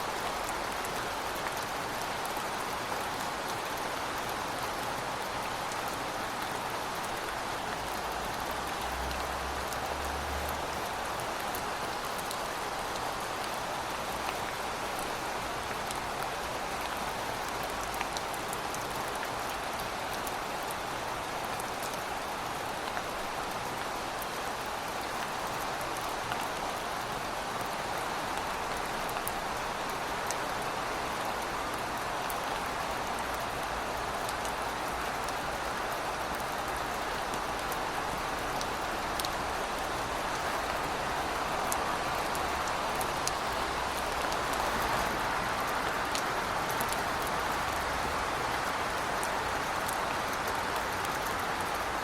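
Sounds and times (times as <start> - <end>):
heavy rain falling: 0.0 - 52.0
raindrops pattering close by: 0.1 - 52.0.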